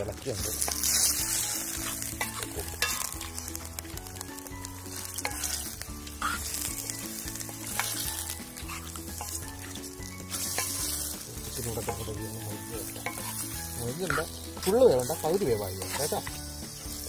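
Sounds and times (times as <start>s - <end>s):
chicken sizzling in hot oil: 0.0s - 17.0s
wooden spoon scraping a pan: 0.4s - 3.5s, 5.1s - 16.4s.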